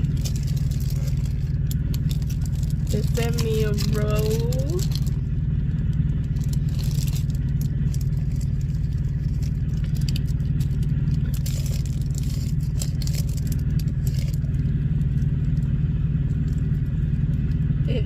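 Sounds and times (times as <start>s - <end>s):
packaging crinkling and rustling: 0.0s - 5.3s, 5.9s - 15.7s
low engine hum: 0.0s - 18.0s.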